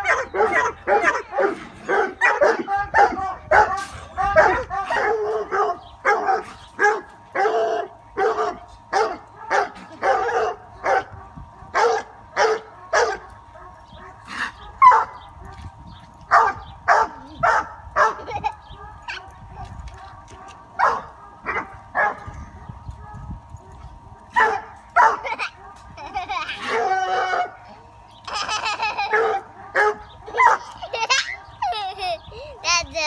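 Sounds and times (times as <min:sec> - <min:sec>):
hounds barking: 0:00.0 - 0:27.9, 0:29.0 - 0:31.6.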